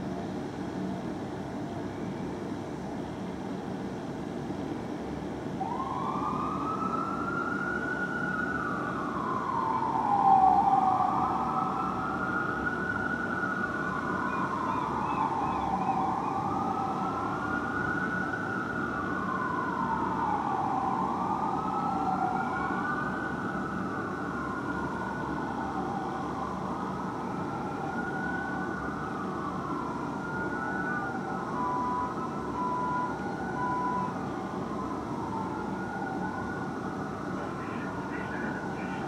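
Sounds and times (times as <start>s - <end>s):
city hum: 0.0s - 39.0s
fire truck sirens wailing: 5.2s - 39.0s.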